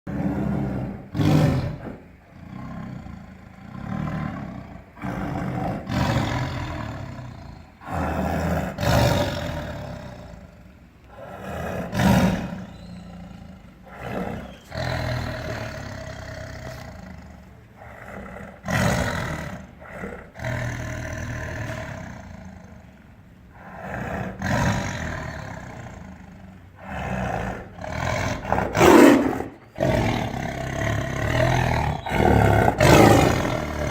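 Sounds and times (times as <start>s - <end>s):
tiger roaring: 0.1s - 33.9s.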